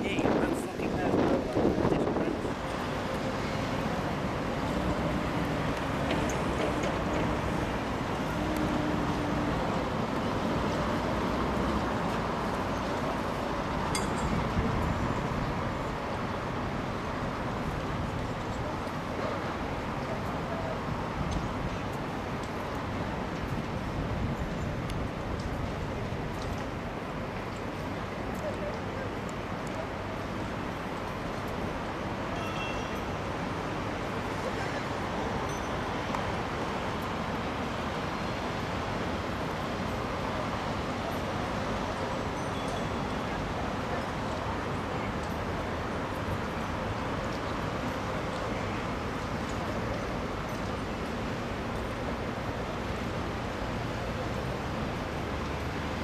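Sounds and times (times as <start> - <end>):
outdoor background rush: 0.0 - 56.0.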